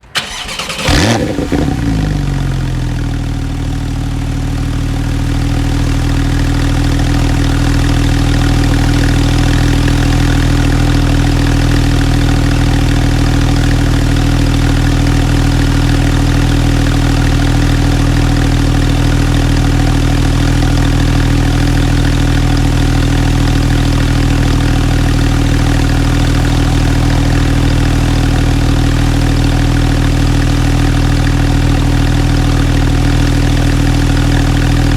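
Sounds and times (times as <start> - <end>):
car engine idling: 0.0 - 34.9
car engine starting up: 0.0 - 34.9.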